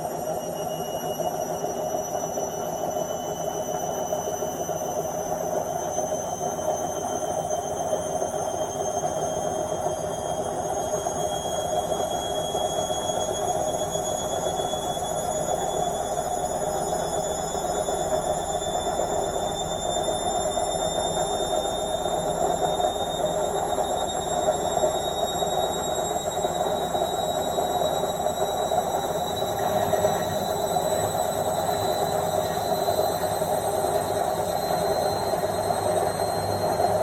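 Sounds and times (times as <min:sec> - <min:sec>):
washing machine spinning: 0:00.0 - 0:37.0.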